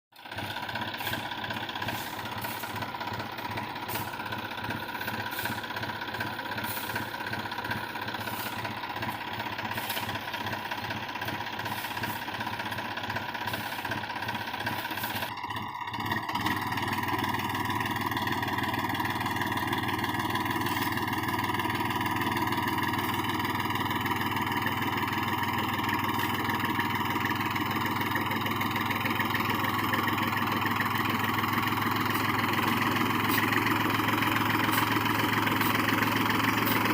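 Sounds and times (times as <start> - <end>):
tractor diesel engine running: 0.1 - 36.9.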